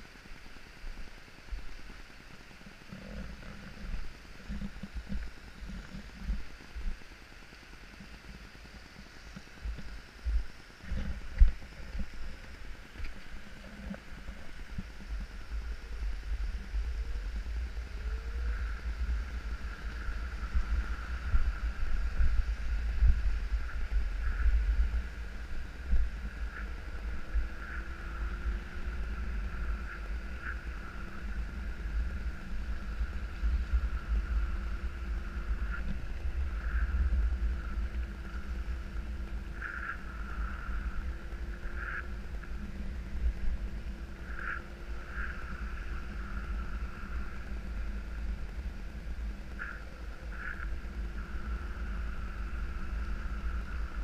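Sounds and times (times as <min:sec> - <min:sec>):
faint steady hiss: 0:00.0 - 0:54.0
wind buffeting microphone: 0:07.9 - 0:54.0.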